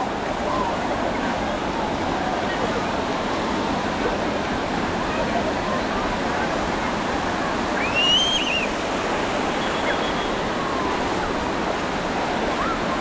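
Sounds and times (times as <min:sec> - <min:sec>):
crowd voices: 0:00.0 - 0:13.0
ocean surf on beach: 0:00.0 - 0:13.0.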